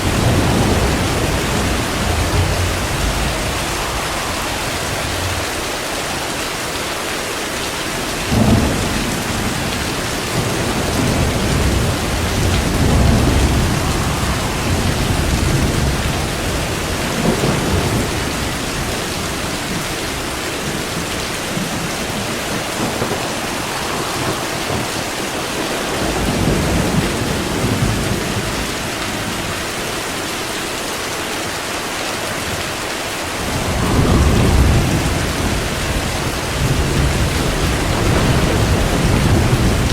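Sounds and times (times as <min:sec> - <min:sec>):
thunder rumbling: 0:00.0 - 0:30.2, 0:32.2 - 0:39.9
rain hissing: 0:00.0 - 0:39.9.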